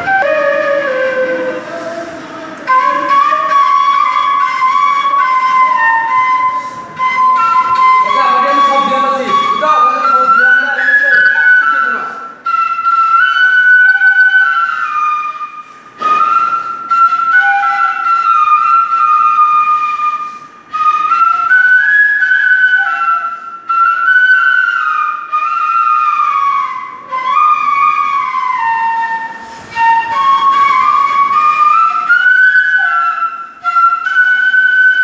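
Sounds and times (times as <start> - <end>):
bamboo flute melody: 0.0 - 35.0.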